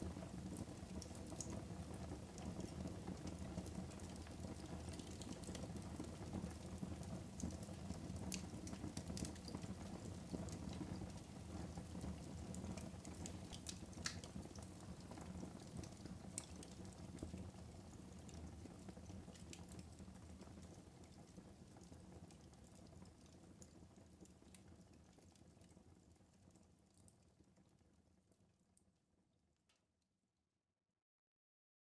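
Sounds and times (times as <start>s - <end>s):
wood fire crackling: 0.0s - 26.3s.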